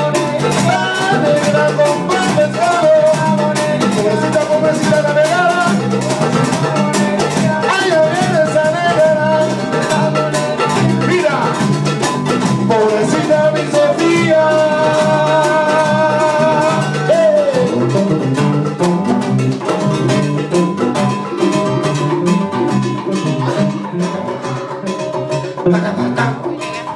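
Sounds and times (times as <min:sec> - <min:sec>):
acoustic guitar: 0:00.0 - 0:26.9
electric bass: 0:00.0 - 0:26.9
hand percussion: 0:00.0 - 0:26.9.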